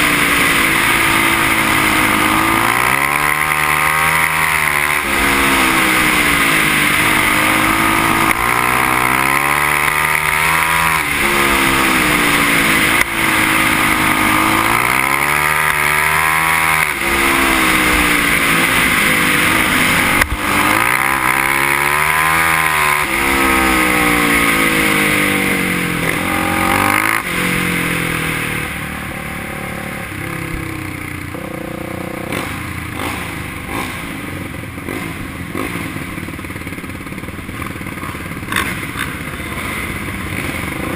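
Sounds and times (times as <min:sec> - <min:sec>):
quad engine revving: 0:00.0 - 0:40.9.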